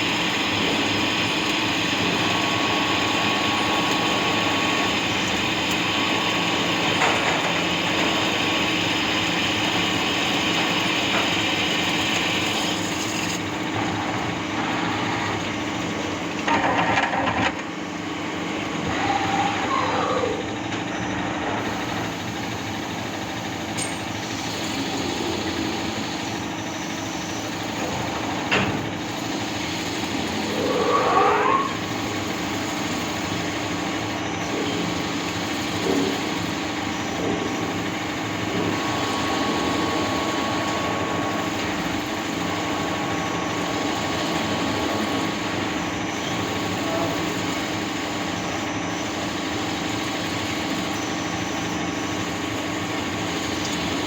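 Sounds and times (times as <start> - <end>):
lathe machine hum: 0.0 - 54.0.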